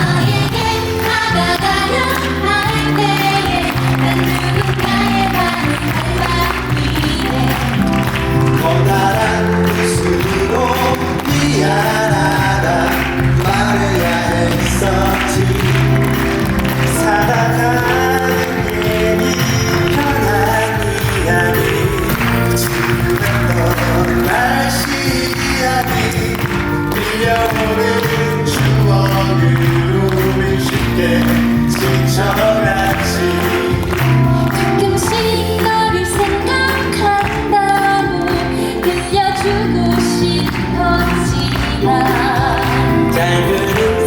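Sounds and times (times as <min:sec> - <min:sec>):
live band playing pop ballad: 0:00.0 - 0:44.0.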